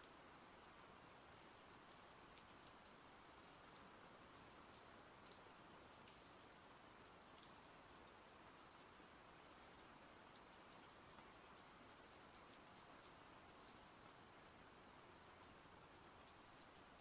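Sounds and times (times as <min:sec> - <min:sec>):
light rain: 0:00.0 - 0:17.0
raindrop ticks: 0:00.0 - 0:17.0.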